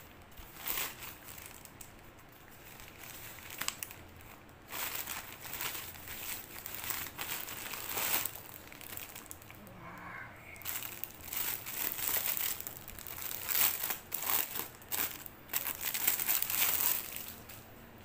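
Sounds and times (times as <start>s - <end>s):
plastic mailer crinkling: 0.0s - 9.6s, 10.6s - 17.6s.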